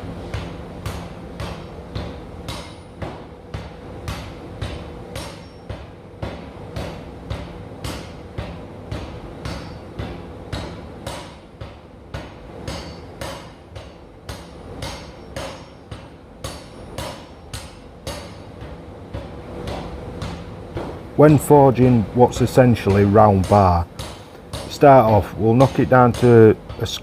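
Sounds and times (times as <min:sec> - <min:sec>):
machine low hum: 0:00.0 - 0:27.0
power hammer striking hot steel: 0:00.3 - 0:27.0.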